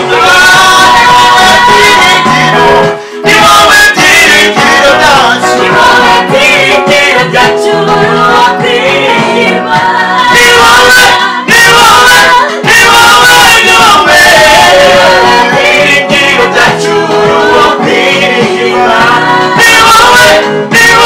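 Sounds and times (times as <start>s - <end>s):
choir singing in harmony: 0.0s - 21.0s.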